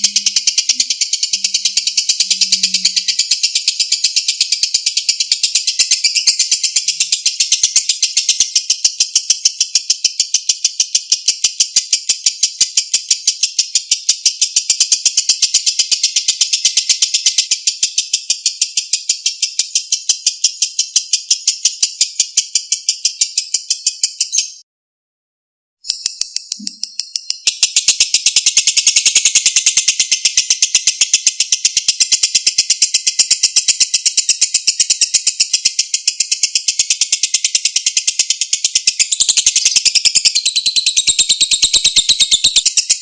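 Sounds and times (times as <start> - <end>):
lovebird chattering: 0.0 - 24.6, 25.9 - 43.0.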